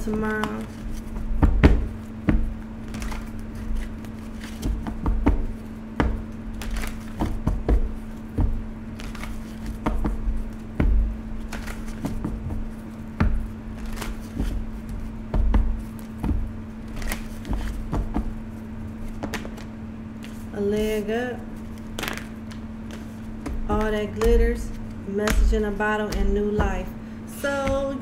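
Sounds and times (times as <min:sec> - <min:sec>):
cards being shuffled: 0:00.0 - 0:26.3
steady low hum: 0:00.0 - 0:28.0.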